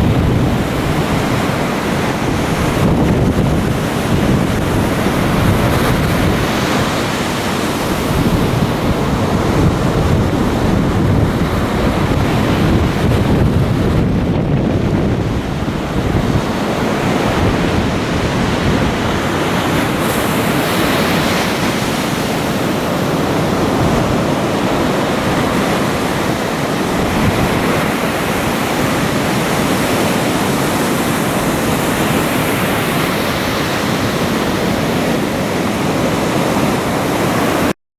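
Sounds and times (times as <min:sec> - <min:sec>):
surf breaking on beach: 0:00.0 - 0:37.7
wind on microphone: 0:00.0 - 0:37.7.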